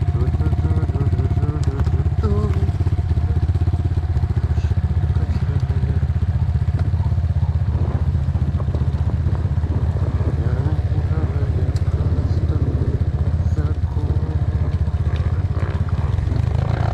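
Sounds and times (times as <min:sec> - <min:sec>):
motorcycle engine chugging: 0:00.0 - 0:16.9.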